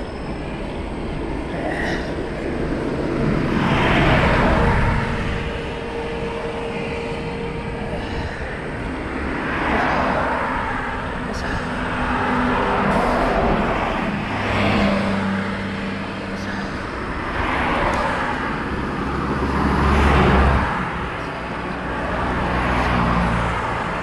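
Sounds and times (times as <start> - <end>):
traffic rumble: 0.0 - 24.0
vehicles passing by: 0.0 - 24.0.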